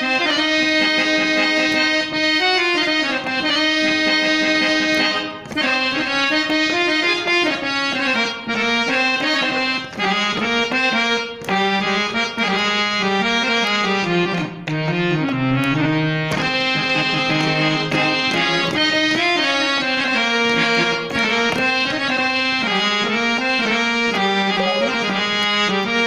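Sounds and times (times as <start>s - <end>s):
harmonium melody: 0.0s - 26.0s.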